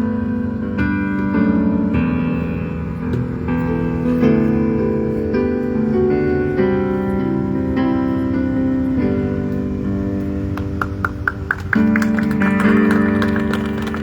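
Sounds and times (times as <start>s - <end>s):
guitar chords: 0.0s - 14.0s.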